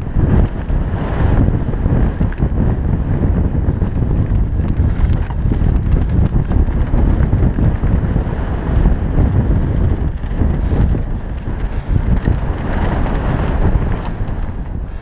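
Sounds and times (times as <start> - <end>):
bike and stones rattling: 0.0 - 15.0
bike tyres rumbling on dirt: 0.0 - 15.0
wind buffeting microphone: 0.0 - 15.0.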